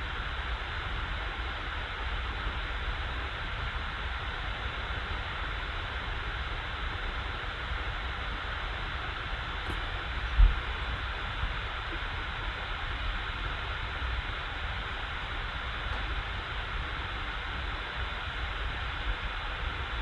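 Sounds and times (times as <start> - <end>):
computer cooling fan whooshing: 0.0 - 20.0.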